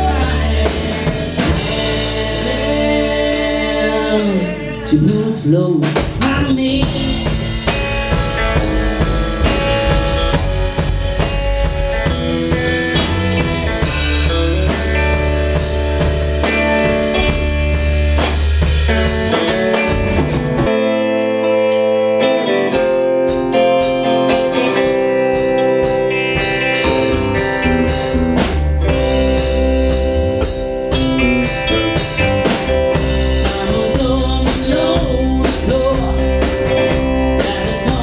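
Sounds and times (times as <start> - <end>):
low bass notes: 0.0 - 20.9, 25.8 - 38.0
drum kit: 0.0 - 38.0
electric guitar: 0.0 - 38.0.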